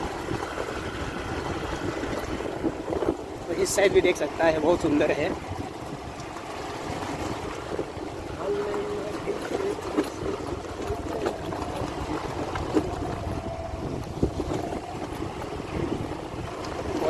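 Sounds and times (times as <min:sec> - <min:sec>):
vehicle engine rumble: 0:00.0 - 0:17.0
wind on microphone: 0:00.0 - 0:17.0.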